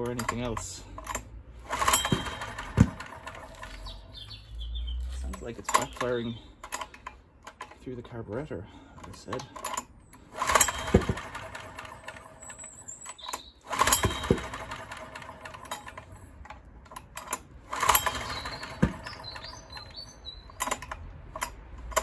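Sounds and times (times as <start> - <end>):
recoil starter pull: 0.0 - 4.3, 5.2 - 7.9, 8.9 - 22.0
generator engine clattering and popping: 0.0 - 4.5, 5.2 - 22.0.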